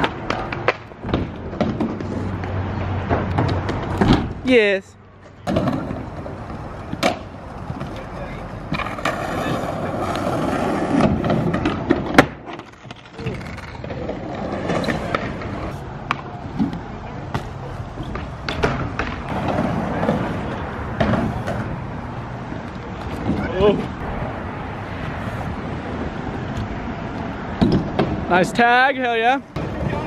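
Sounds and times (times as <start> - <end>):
bike tyres rolling on concrete: 0.0 - 30.0.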